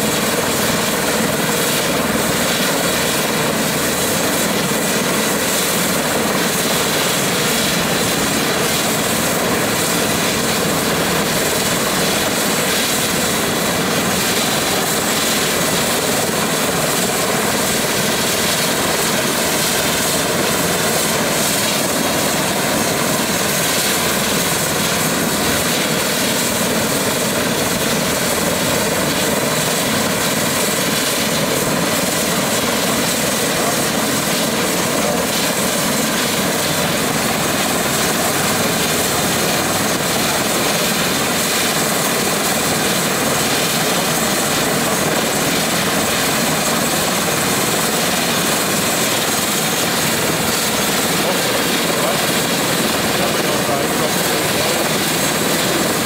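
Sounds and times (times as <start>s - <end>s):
helicopter turbine and rotor noise: 0.0s - 56.0s.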